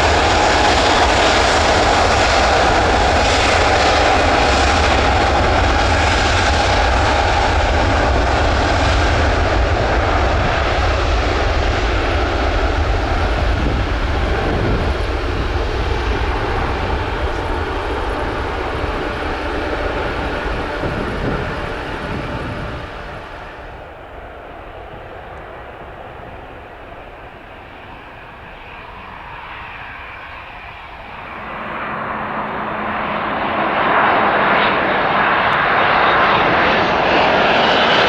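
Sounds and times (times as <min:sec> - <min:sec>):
jet engines at take-off power: 0:00.0 - 0:38.0.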